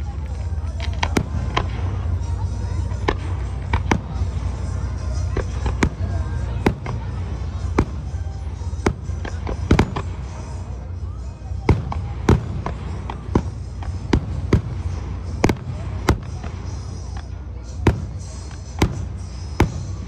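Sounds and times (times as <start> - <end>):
steady low rumble: 0.0 - 20.0
fireworks bangs: 0.1 - 10.7, 11.5 - 20.0.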